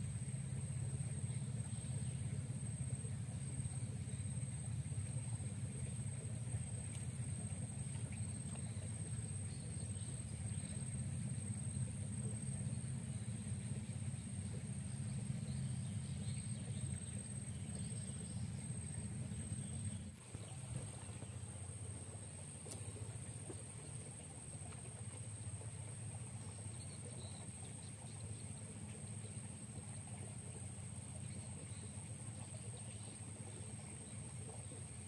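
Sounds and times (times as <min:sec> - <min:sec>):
low steady rumble: 0:00.0 - 0:35.0.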